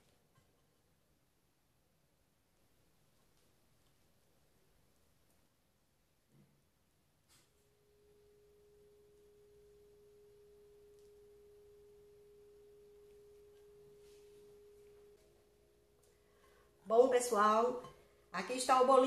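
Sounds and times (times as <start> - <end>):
faint steady pure tone: 0.0 - 19.0.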